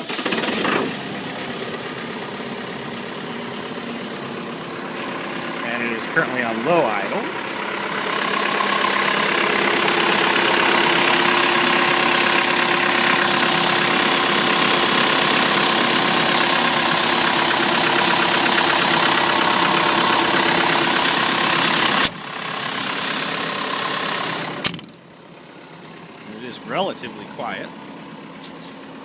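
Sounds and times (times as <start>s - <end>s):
diesel generator idling: 0.0s - 29.0s.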